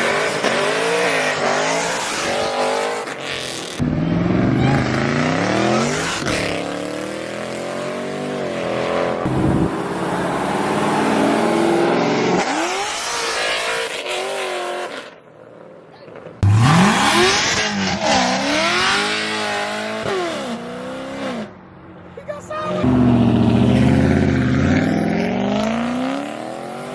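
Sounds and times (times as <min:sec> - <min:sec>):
car engines revving hard: 0:00.0 - 0:15.2, 0:16.4 - 0:21.6, 0:22.7 - 0:26.9
exhaust and tire roar: 0:00.0 - 0:15.3, 0:16.4 - 0:21.8, 0:22.5 - 0:26.9.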